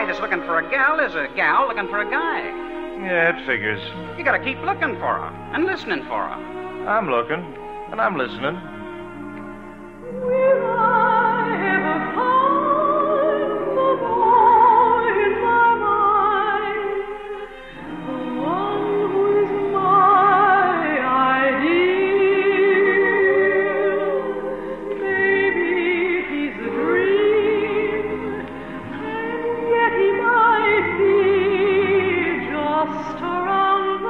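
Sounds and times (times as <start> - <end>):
operatic singing with vibrato: 0.0 - 34.0
orchestral accompaniment: 0.0 - 34.0.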